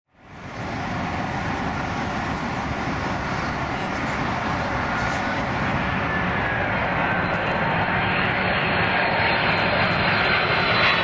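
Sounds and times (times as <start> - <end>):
jet engines drone: 0.1 - 11.0.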